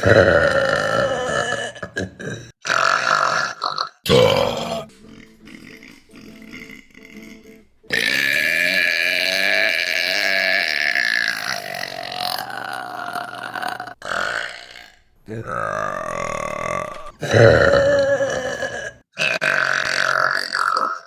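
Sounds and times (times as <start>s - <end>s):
women burping: 0.0s - 21.0s.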